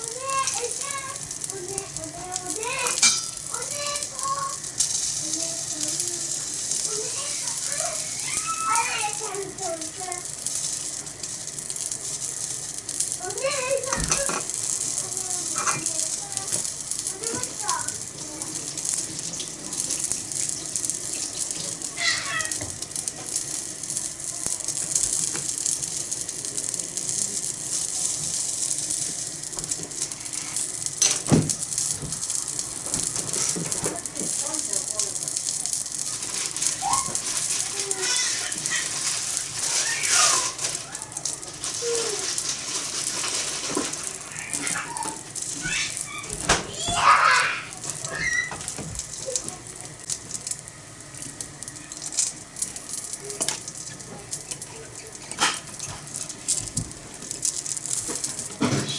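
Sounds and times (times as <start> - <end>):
batter sizzling on griddle: 0.0 - 58.9
wood fire crackling: 0.0 - 58.9.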